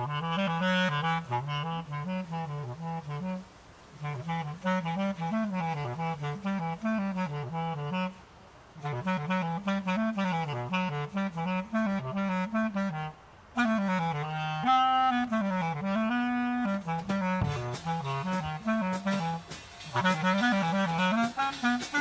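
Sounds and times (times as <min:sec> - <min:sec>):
clarinet improvising free jazz: 0:00.0 - 0:22.0.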